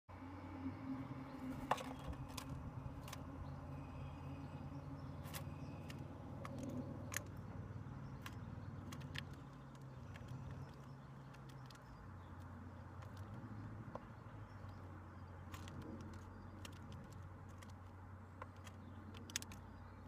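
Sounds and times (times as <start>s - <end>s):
distant road traffic rumble: 0.1s - 20.0s.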